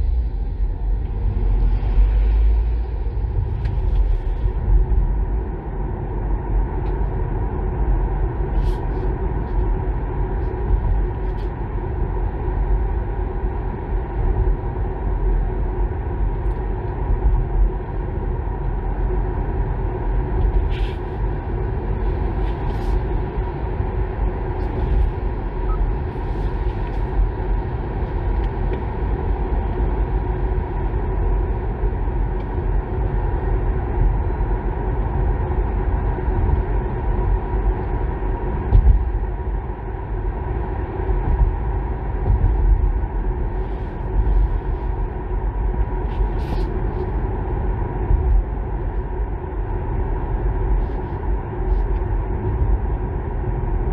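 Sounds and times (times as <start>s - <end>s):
faint constant hum: 0.0s - 53.9s
road and tyre rumble: 0.0s - 53.9s.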